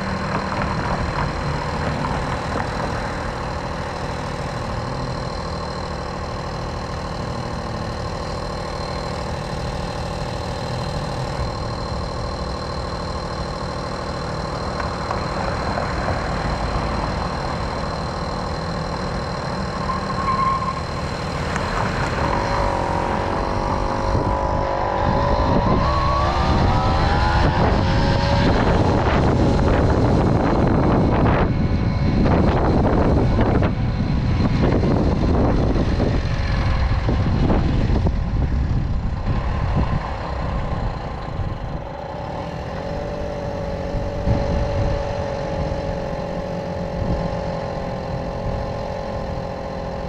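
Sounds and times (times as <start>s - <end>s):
moped engine running: 0.0s - 50.0s.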